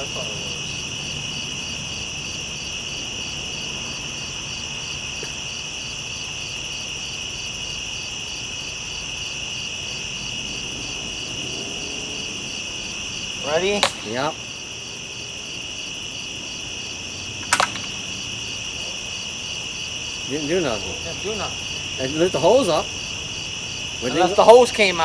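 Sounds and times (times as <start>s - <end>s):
crickets chirring: 0.0s - 25.0s
pulsing insect trill: 0.0s - 25.0s.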